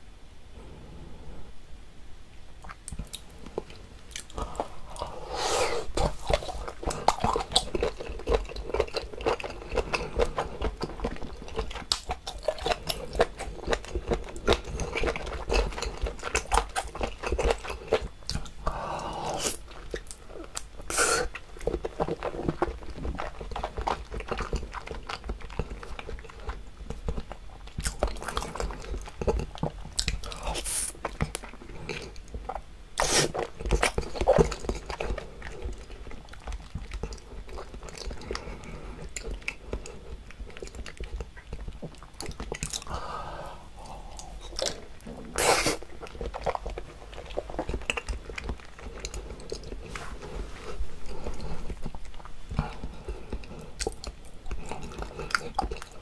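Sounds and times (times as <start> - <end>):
close chewing and biting: 2.6 - 5.2, 5.8 - 43.1, 43.7 - 56.0.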